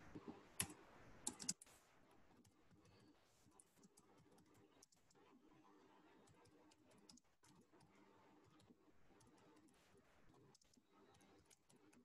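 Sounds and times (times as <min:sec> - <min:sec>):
faint computer keyboard typing: 0:00.1 - 0:12.0.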